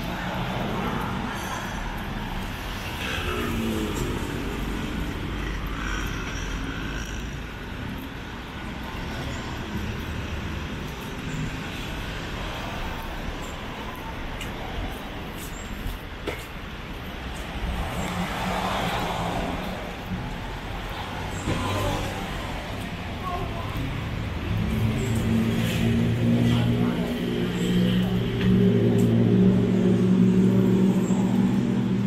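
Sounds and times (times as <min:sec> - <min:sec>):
cars passing on street: 0:00.0 - 0:32.0.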